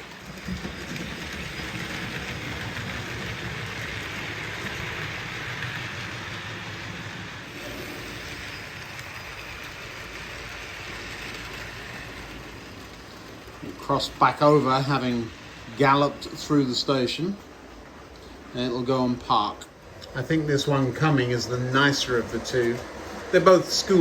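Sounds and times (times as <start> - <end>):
model train wheels and motor rumble: 0.0 - 24.0.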